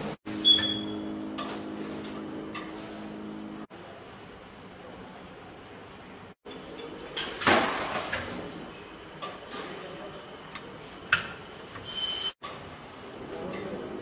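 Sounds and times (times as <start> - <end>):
conveyor humming: 0.0 - 14.0.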